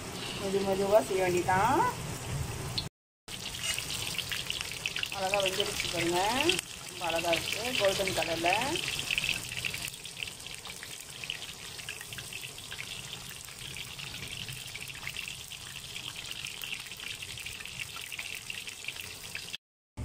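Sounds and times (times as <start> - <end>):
tofu deep-frying in hot oil: 0.1 - 19.6.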